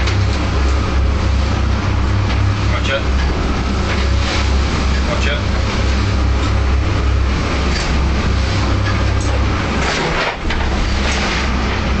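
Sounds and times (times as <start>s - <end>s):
boat engine droning: 0.0s - 12.0s
sea water rushing against hull: 0.0s - 12.0s.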